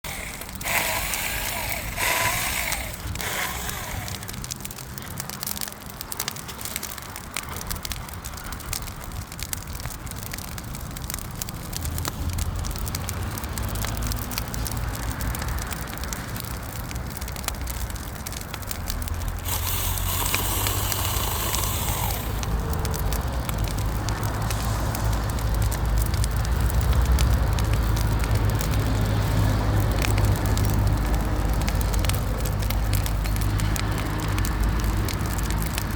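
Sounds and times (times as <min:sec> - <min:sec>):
bonfire crackling and popping: 0:00.0 - 0:35.9.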